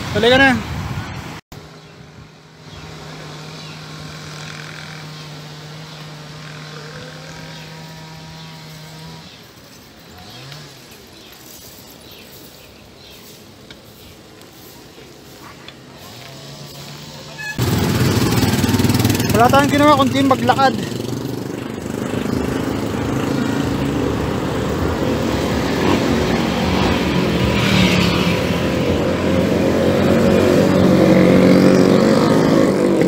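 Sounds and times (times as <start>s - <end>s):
vehicle engine humming: 1.5s - 33.0s.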